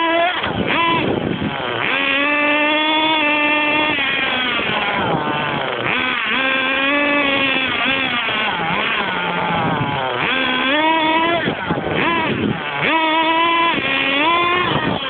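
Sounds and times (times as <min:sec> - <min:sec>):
rc car engine revving: 0:00.0 - 0:15.0.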